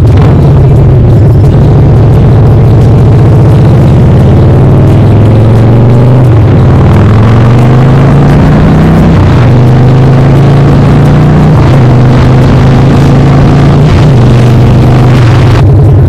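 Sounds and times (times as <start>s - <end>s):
loud motorcycle exhaust: 0.0s - 16.0s.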